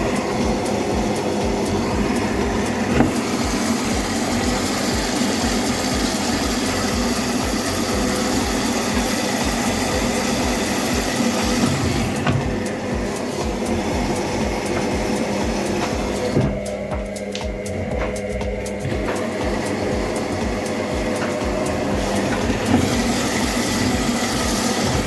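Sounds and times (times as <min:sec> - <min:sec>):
washing machine humming: 0:00.0 - 0:25.0
washing machine thumping: 0:00.0 - 0:25.0.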